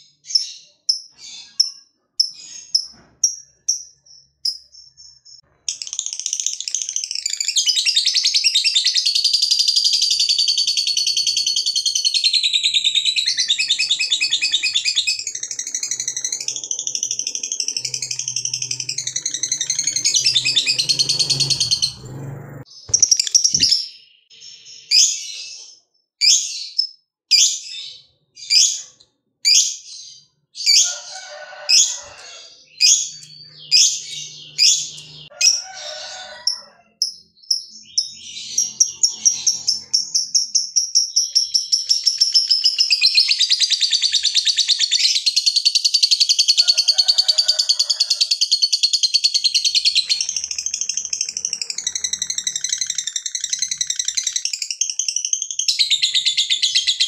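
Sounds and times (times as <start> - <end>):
lovebird chirping: 0.0 - 31.0, 31.7 - 35.7, 37.0 - 46.3, 49.2 - 57.0.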